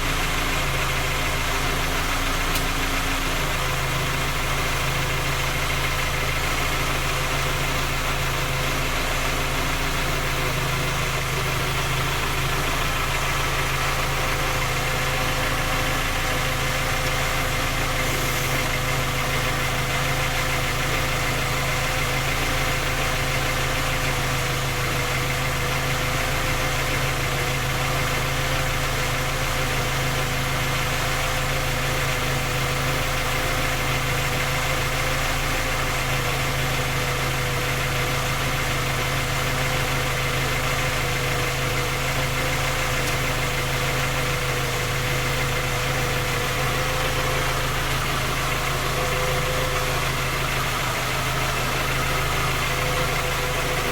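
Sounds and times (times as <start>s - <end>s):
petrol engine idling: 0.0s - 53.9s.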